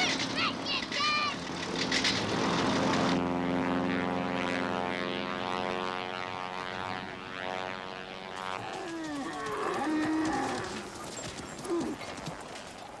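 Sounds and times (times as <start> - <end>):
propeller engine droning: 0.0 - 12.5.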